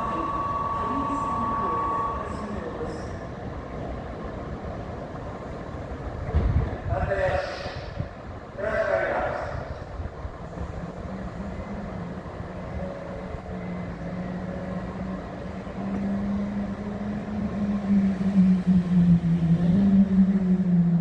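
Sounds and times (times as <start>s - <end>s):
train humming: 0.0s - 21.0s.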